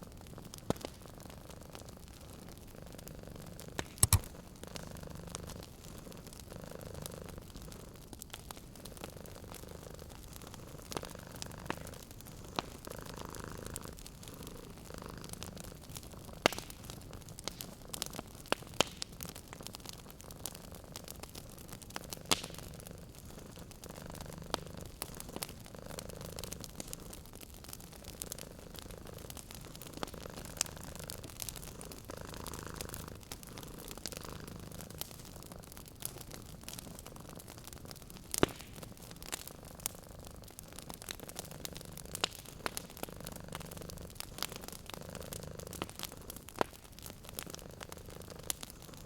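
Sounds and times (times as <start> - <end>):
wood fire crackling: 0.1 - 49.0
cat purring: 0.3 - 49.0.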